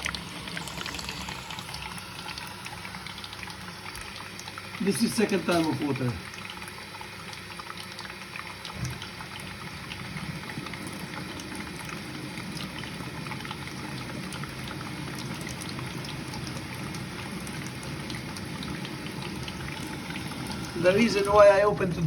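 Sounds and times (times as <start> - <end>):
water splashes and drips: 0.0 - 21.7
water pouring into dishwasher: 0.0 - 22.0.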